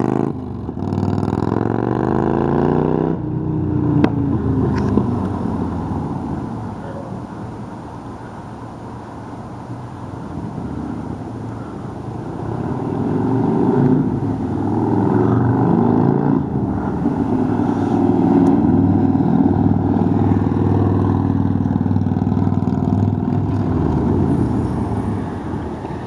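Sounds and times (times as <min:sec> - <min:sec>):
motorcycle engine with deep exhaust: 0:00.0 - 0:08.4, 0:09.2 - 0:26.0.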